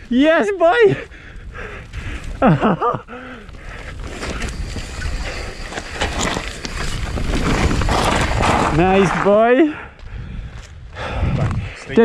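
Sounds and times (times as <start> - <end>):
bike tyres rolling on dirt: 0.0 - 12.0
wind rumbling on microphone: 0.0 - 12.0.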